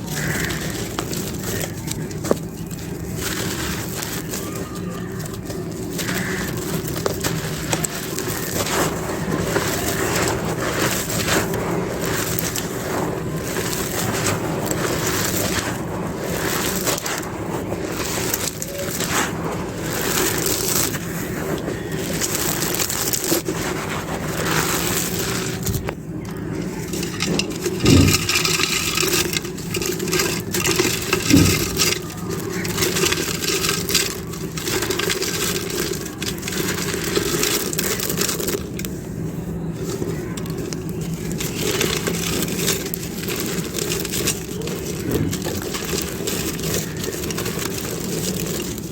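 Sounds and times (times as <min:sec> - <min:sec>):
dry clay crunching: 0:00.0 - 0:48.9.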